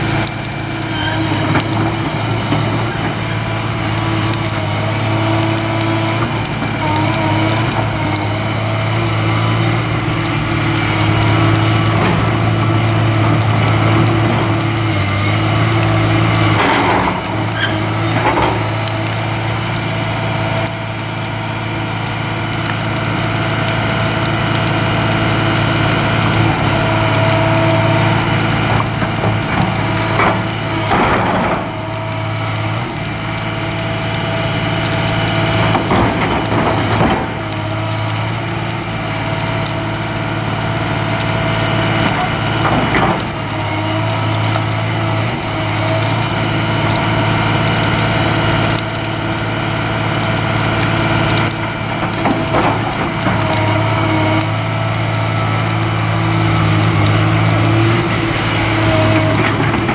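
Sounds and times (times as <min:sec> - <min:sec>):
cracking and crunching: 0:00.0 - 0:59.9
excavator diesel engine running: 0:00.0 - 0:59.9.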